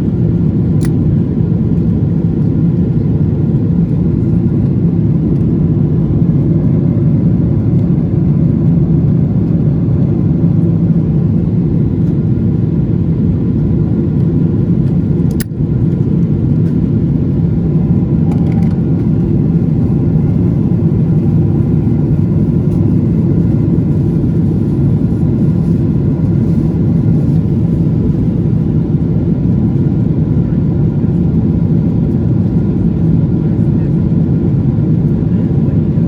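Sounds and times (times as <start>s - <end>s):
aircraft engines droning: 0.0s - 36.0s.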